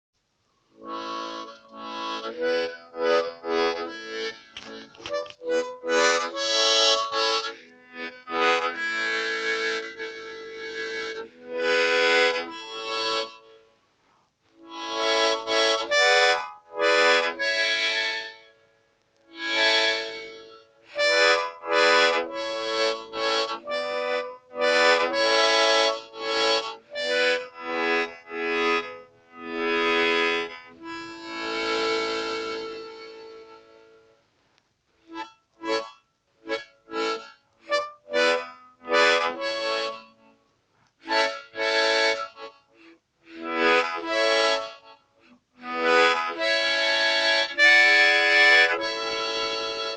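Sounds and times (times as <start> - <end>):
reedy instrumental music: 0.8 - 13.7, 14.6 - 34.2, 35.1 - 40.4, 41.0 - 49.9.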